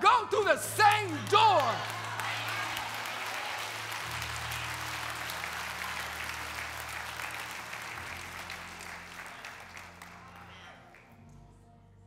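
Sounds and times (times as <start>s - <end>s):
congregation applauding: 0.0s - 11.4s.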